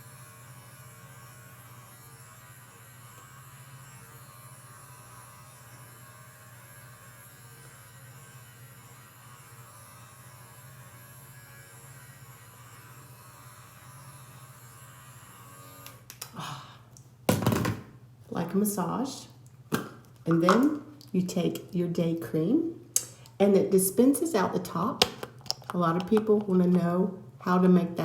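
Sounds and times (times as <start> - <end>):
facial brush electric hum: 0.0 - 16.5, 20.3 - 28.0.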